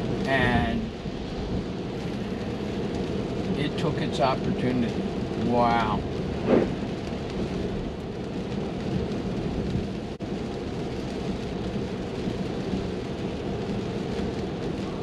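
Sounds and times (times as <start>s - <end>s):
rain on car roof and windscreen: 0.0s - 15.0s
tyres hissing on wet road: 0.0s - 15.0s.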